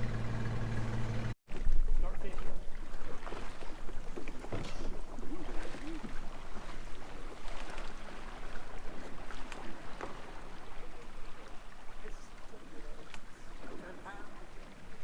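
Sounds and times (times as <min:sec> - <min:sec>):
lapping water: 0:02.2 - 0:15.0.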